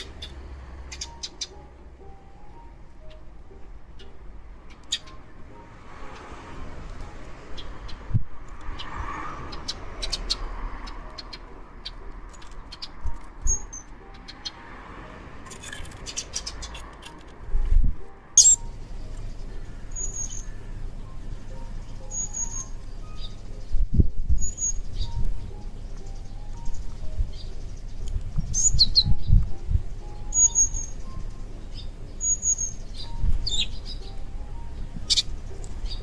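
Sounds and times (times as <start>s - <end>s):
small birds chirping: 0.0s - 6.5s, 7.1s - 14.8s, 15.5s - 17.2s, 18.4s - 36.0s.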